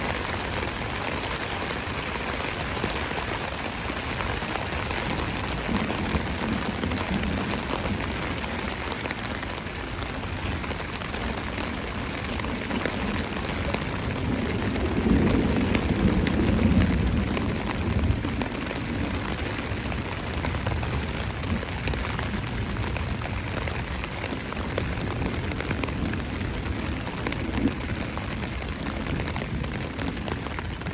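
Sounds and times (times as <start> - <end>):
heavy rain on a tarp: 0.0 - 30.9.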